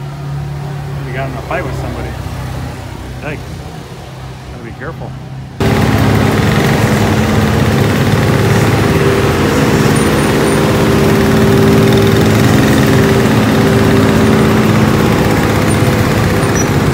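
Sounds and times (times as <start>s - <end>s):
diesel engine droning: 0.0s - 16.9s
motorcycle engines idling: 0.0s - 16.9s.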